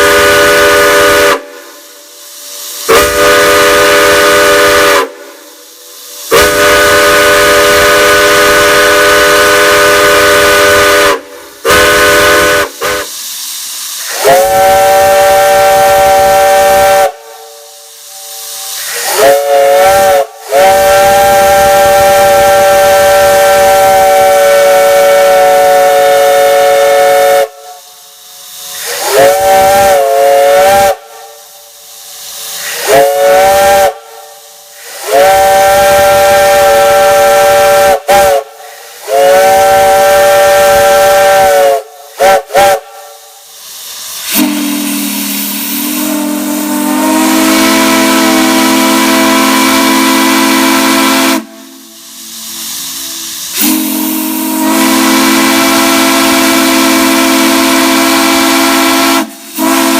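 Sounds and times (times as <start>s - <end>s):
steam whistle blasts: 0.0s - 59.9s.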